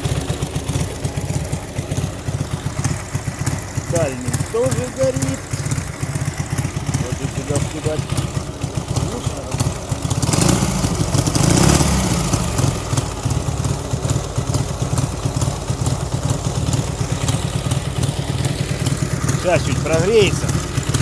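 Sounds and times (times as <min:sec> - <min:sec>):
flat-twin engine idling: 0:00.0 - 0:21.0.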